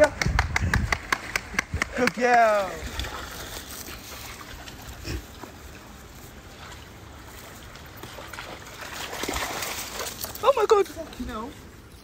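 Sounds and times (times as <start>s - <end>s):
dog paws splashing in water: 0.9s - 11.9s
stream running over stones: 2.0s - 12.0s.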